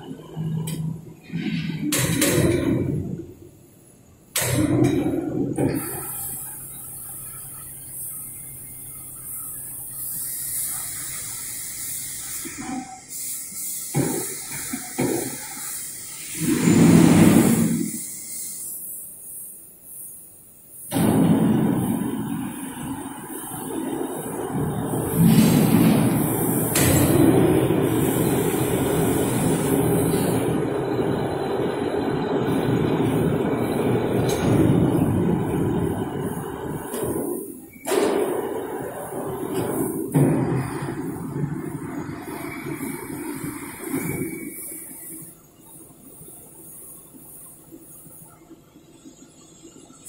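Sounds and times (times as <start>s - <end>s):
machining center humming and whirring: 0.0s - 50.0s
high hiss: 5.7s - 48.2s.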